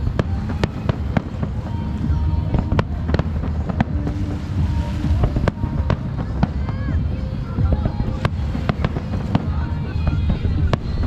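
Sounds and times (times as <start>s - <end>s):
fireworks bangs: 0.0s - 11.0s
low rumble of fireworks barrage: 0.0s - 11.0s.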